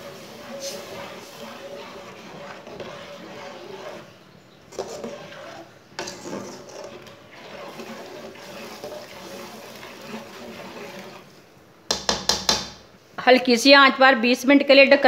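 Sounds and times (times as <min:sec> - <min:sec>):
spoon stirring liquid curry: 0:00.0 - 0:12.8.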